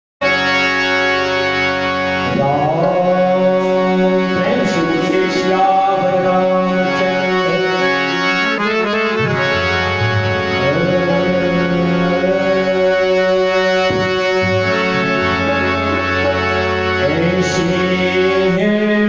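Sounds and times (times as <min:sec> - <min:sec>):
harmonium chords: 0:00.2 - 0:19.0
man singing wordless line: 0:02.2 - 0:09.1, 0:10.4 - 0:19.0.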